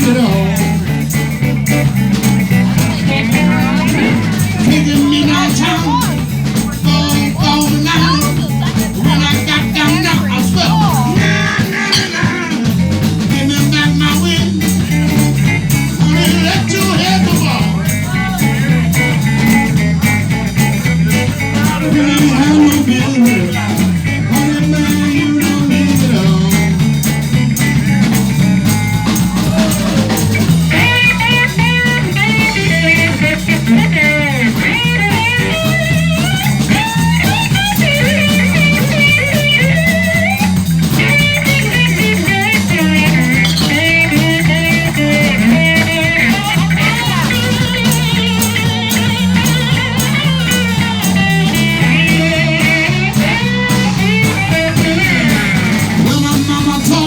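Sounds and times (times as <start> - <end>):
bass line: 0.0 - 57.0
drum kit: 0.0 - 57.0
lead guitar bending notes: 0.0 - 57.0.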